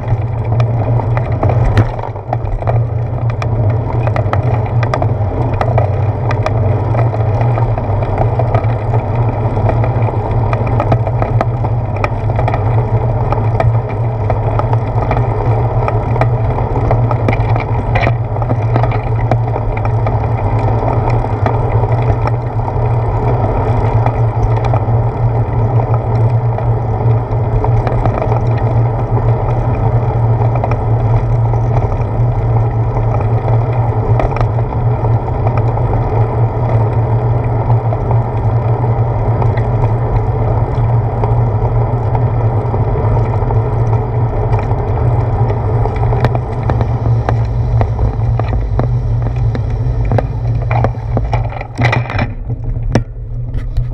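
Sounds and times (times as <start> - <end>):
bicycle tyres rolling on asphalt: 0.0 - 53.9
wind noise: 0.0 - 53.9.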